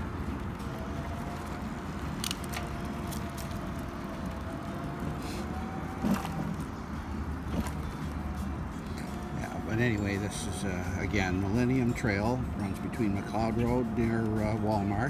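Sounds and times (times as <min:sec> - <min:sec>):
mobility scooter motor whine: 0:00.0 - 0:15.0
wheels rumbling on pavement: 0:00.0 - 0:15.0.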